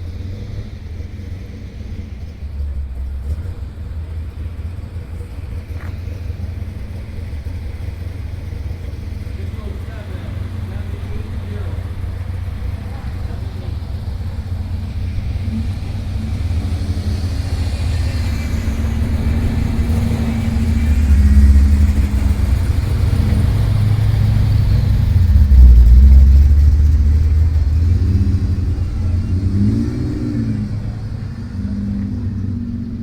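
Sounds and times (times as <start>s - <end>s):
car engine rumbling: 0.0s - 33.0s
engine revving: 0.0s - 33.0s.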